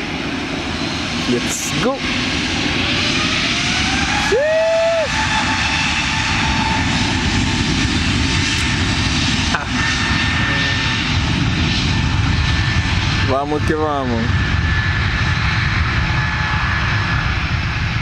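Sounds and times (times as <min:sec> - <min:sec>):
jet engines spooling up: 0:00.0 - 0:18.0.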